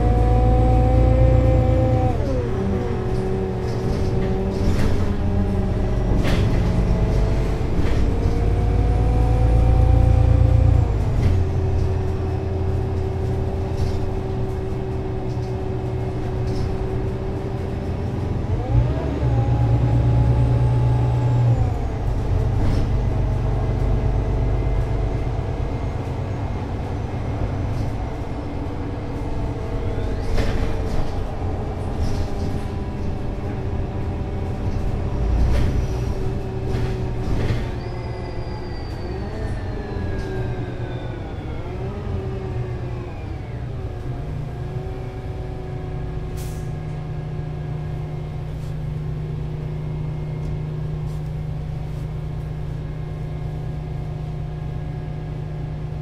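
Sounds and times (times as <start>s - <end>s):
bus engine slowing down: 0.0s - 56.0s.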